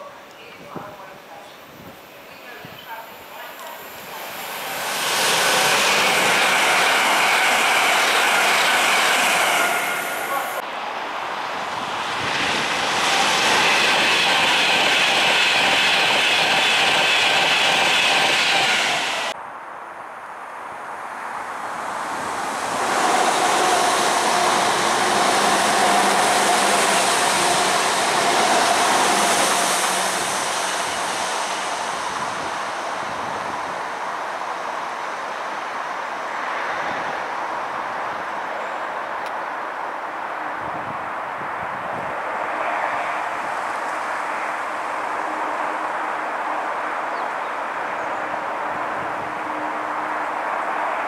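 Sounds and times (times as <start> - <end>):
electric train humming past: 2.9 - 19.4, 20.0 - 39.0, 40.1 - 51.0
electric train passing at speed: 2.9 - 51.0.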